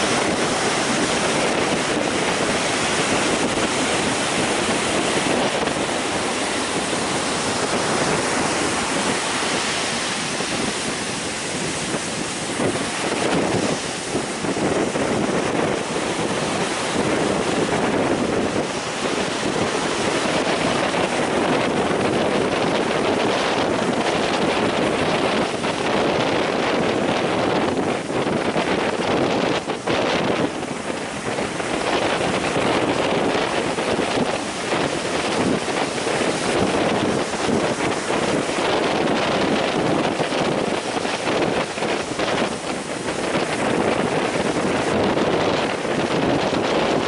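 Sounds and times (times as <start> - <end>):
sea surf breaking: 0.0 - 47.0
wind buffeting microphone: 0.0 - 47.0.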